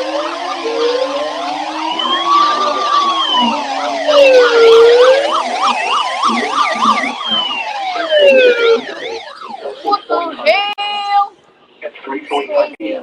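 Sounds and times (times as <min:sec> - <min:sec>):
siren wailing: 0:00.0 - 0:11.2
siren yelping: 0:00.0 - 0:11.2.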